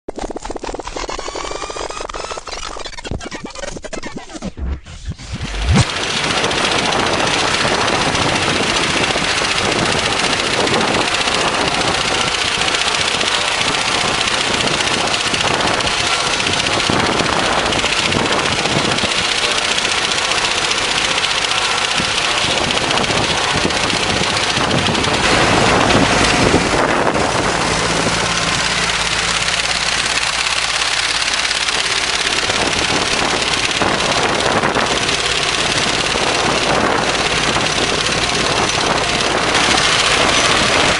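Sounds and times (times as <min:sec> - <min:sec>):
tractor engine low drone: 0:00.1 - 0:40.9
hay mower rattling: 0:05.8 - 0:40.9.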